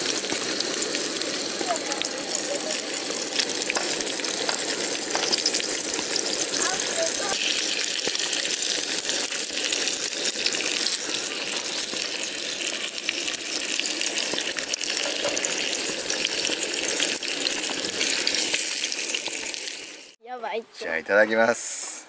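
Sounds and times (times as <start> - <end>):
steak sizzling in a skillet: 0.0 - 20.2.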